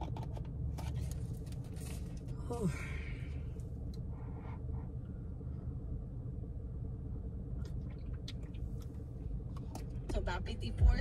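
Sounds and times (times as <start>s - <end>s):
low hum inside car cabin: 0.0s - 11.0s.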